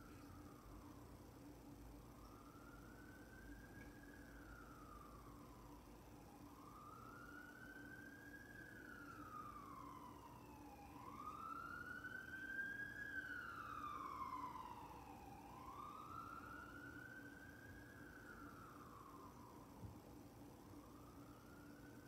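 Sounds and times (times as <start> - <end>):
faint siren wailing: 0.0 - 22.0.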